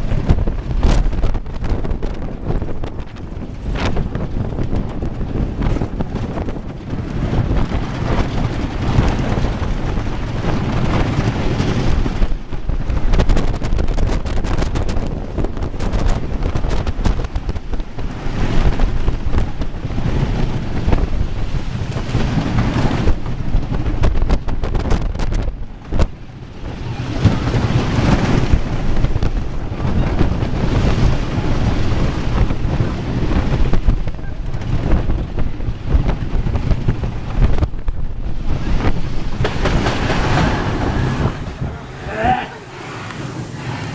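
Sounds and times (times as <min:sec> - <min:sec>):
roller coaster rumble and clatter: 0:00.0 - 0:43.9
wind buffeting microphone: 0:00.0 - 0:43.9.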